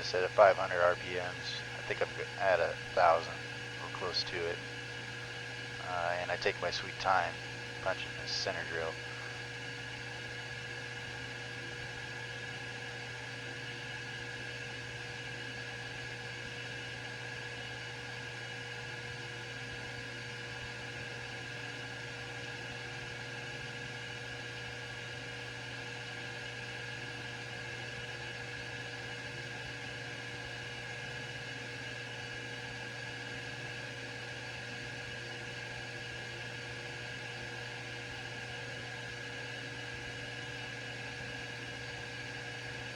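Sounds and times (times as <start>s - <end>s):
metal lathe hum and whine: 0.0s - 5.8s, 7.3s - 42.9s.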